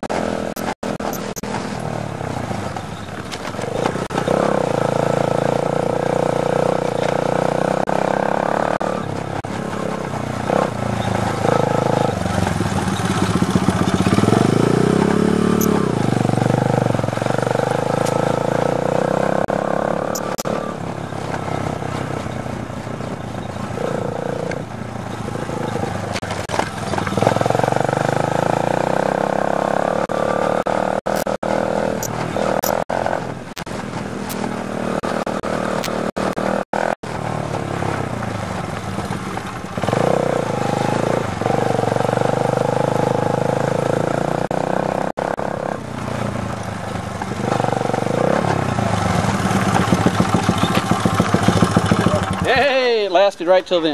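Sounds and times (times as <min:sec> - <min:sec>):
dirt bike engine revving: 0:03.6 - 0:22.4, 0:23.4 - 0:46.6, 0:47.2 - 0:53.9.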